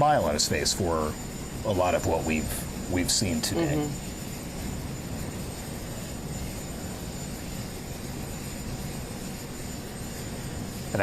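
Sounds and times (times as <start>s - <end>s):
helicopter running: 0.0s - 11.0s.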